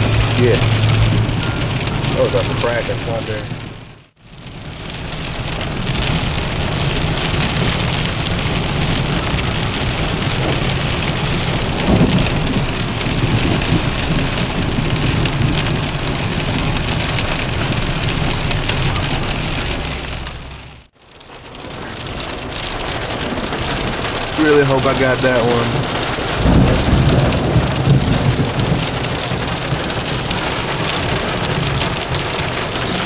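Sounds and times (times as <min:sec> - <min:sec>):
thunder rumbling: 0:00.0 - 0:04.0, 0:04.8 - 0:20.9, 0:22.0 - 0:33.0
sleet and rain falling: 0:00.0 - 0:33.0.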